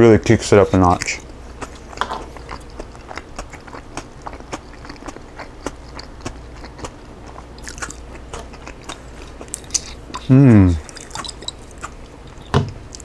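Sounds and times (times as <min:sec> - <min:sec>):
crunchy chewing: 0:00.4 - 0:13.0.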